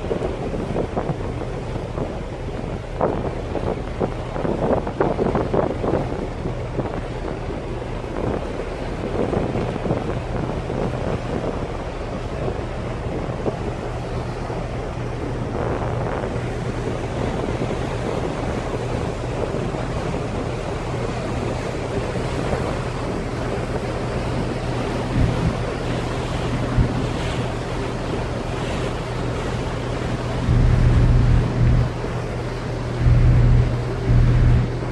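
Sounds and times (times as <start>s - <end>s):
ship machinery hum: 0.0s - 34.9s
wind and water rushing: 0.0s - 34.9s
wind buffeting microphone: 0.0s - 34.9s.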